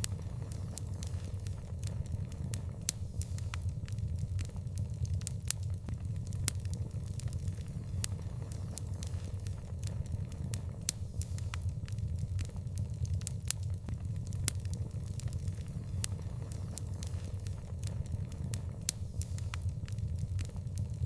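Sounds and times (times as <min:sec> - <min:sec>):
fire pops and snaps: 0:00.0 - 0:21.0
low rumble of burning flames: 0:00.0 - 0:21.0.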